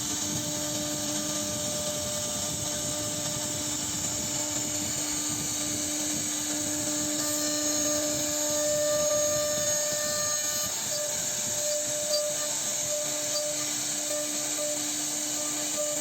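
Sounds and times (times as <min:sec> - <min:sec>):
cnc router carving wood: 0:00.0 - 0:16.0.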